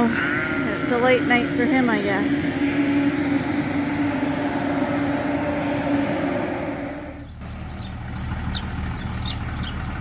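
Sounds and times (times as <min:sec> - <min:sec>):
quieter lower hum: 0:00.0 - 0:08.7
mechanical hum: 0:00.0 - 0:09.4.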